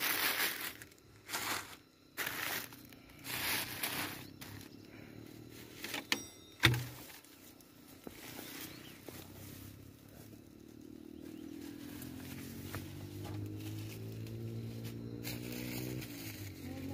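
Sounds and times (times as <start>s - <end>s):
branches rustling: 0.0s - 5.9s, 6.7s - 16.9s
faint engine hum: 1.0s - 6.1s, 6.8s - 16.9s.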